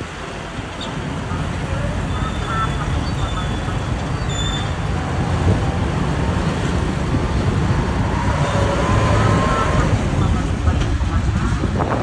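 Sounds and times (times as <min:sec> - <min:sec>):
road traffic noise: 0:00.0 - 0:12.0
truck engine running: 0:00.1 - 0:12.0.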